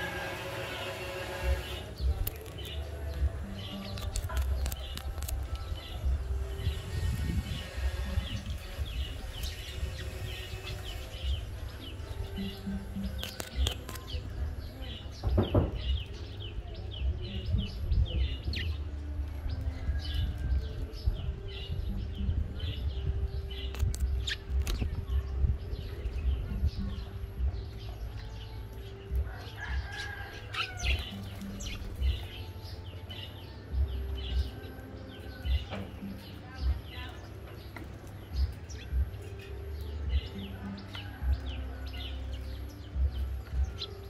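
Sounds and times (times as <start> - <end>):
sparrows chirping: 0.0 - 44.0.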